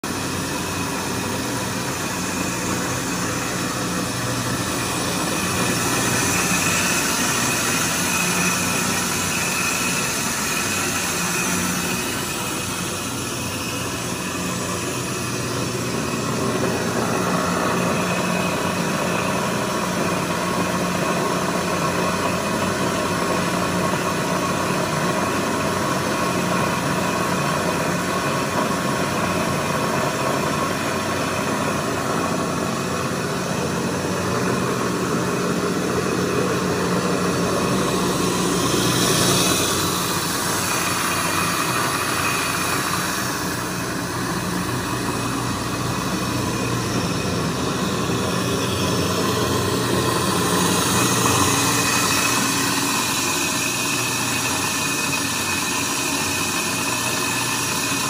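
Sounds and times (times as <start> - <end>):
grinder motor hum and whine: 0.0 - 58.0
higher steady whine: 0.0 - 58.0.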